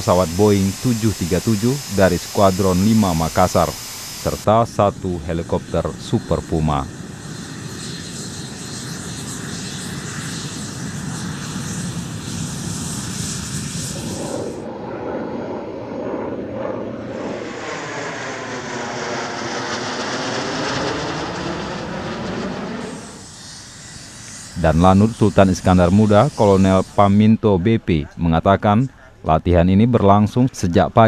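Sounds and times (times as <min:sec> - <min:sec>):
jet engine rush on takeoff roll: 0:00.0 - 0:27.2
jets flying past: 0:00.0 - 0:27.3.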